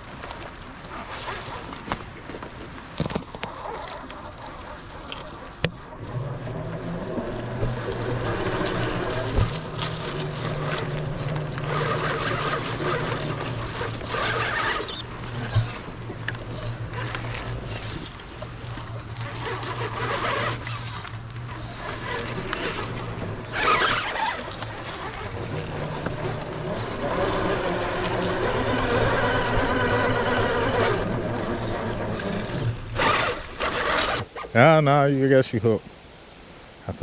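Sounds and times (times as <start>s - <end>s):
rc car electric motor humming: 3.4s - 34.6s.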